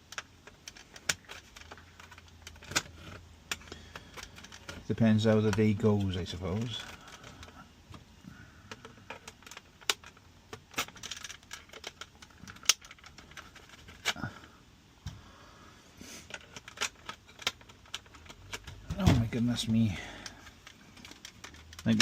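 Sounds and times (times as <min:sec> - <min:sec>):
plastic clicks and rattles: 0:00.0 - 0:08.0, 0:08.6 - 0:14.4, 0:16.2 - 0:22.0.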